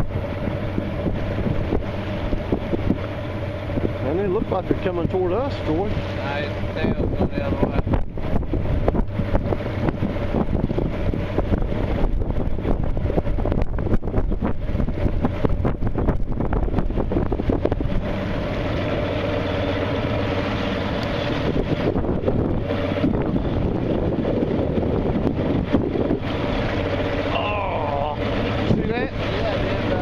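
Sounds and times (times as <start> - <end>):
boat engine hum: 0.0 - 30.0
water rushing along hull: 0.0 - 30.0
wind buffeting microphone: 0.0 - 30.0.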